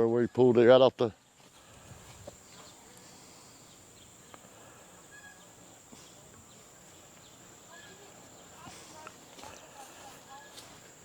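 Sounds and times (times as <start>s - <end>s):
high-pitched insect chorus: 1.1s - 11.0s.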